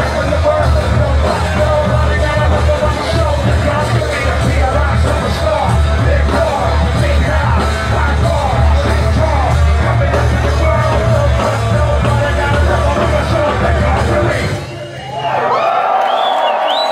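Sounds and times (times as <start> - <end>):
live hip-hop music with heavy bass: 0.0 - 15.4.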